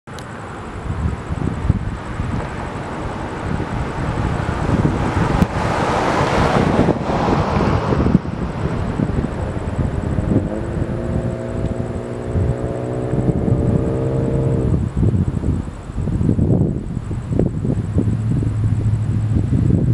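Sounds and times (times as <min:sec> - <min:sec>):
road traffic: 0:00.1 - 0:19.9
wind buffeting microphone: 0:00.2 - 0:19.9
vehicle accelerating: 0:01.1 - 0:15.7, 0:16.3 - 0:19.9.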